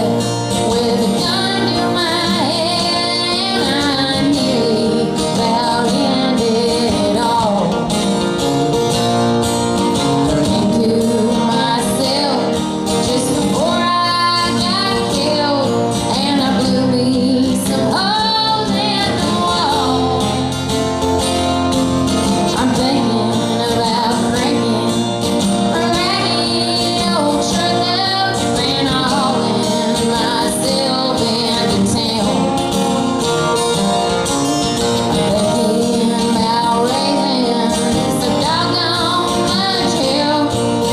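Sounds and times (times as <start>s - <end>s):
woman singing: 0.0s - 9.0s, 9.6s - 40.9s
guitar accompaniment: 0.0s - 40.9s.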